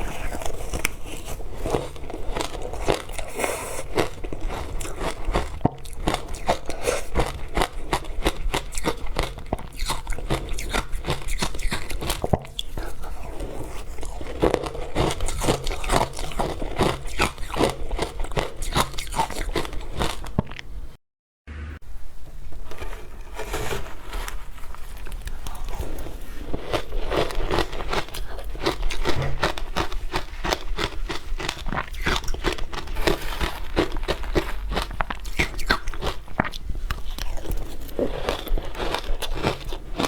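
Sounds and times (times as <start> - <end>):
ice being bitten and chewed: 0.0 - 20.8, 22.5 - 40.0.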